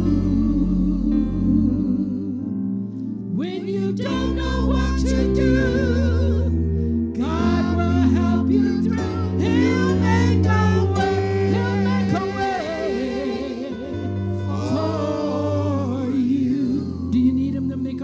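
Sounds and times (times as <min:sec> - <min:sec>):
gospel singing: 0:00.0 - 0:02.6, 0:03.3 - 0:18.0.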